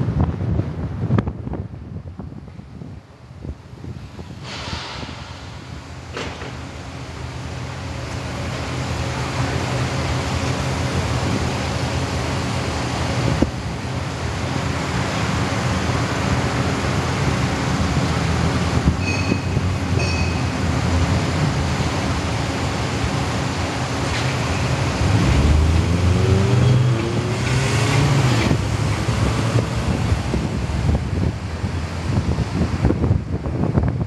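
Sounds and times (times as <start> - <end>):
traffic and engine hum: 0.0 - 34.0.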